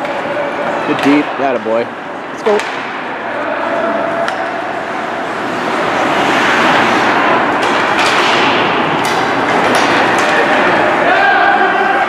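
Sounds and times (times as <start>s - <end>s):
ice skating and play: 0.0s - 2.6s, 3.2s - 12.0s.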